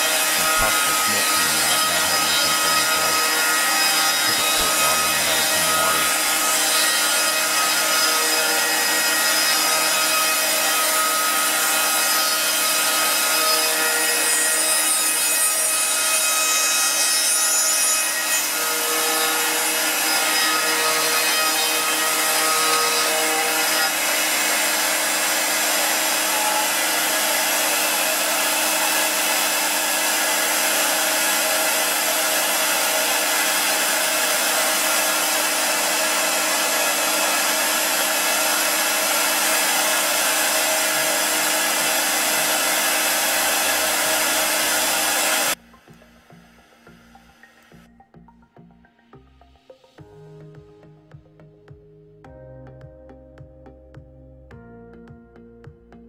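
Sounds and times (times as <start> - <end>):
cnc router cutting wood: 0.0 - 45.6.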